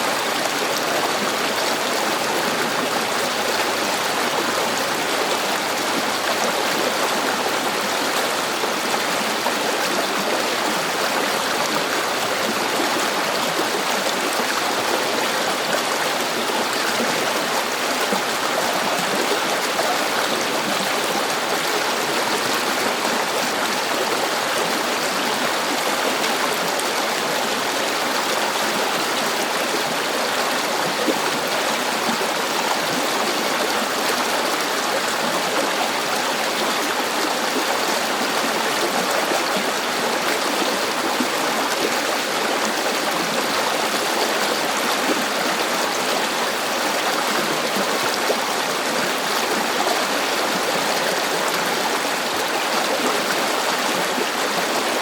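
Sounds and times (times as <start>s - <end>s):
river water flowing over stones: 0.0s - 55.0s.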